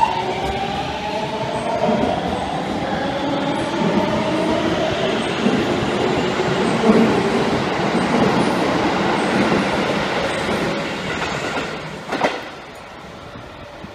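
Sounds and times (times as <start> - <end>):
train wheel-on-rail noise: 0.0 - 13.9.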